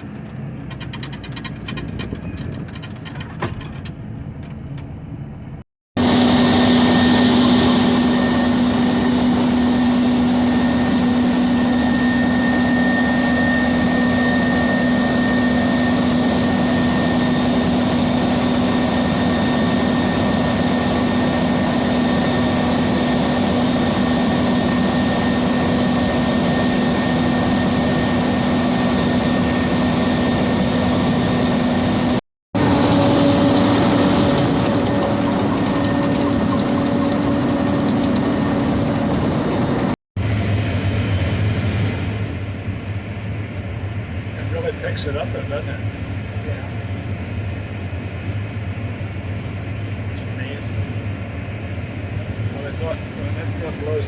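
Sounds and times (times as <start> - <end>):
combine harvester droning: 4.0 - 54.0.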